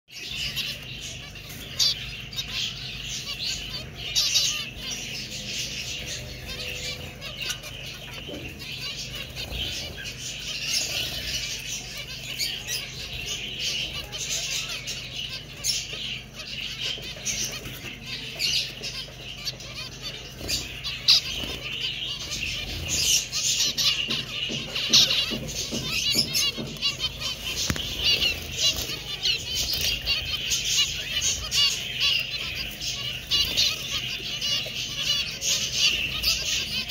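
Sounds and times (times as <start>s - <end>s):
finches chattering: 0.1s - 36.9s.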